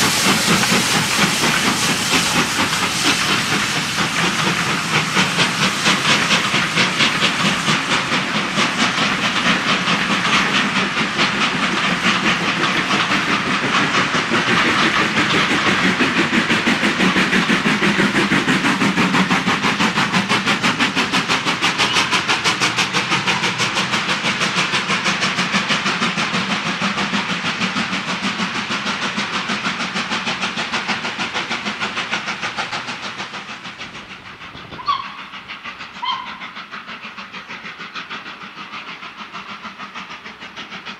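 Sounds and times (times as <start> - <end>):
coaches rumbling on rails: 0.0 - 40.9
steam locomotive exhaust beat: 0.0 - 40.9.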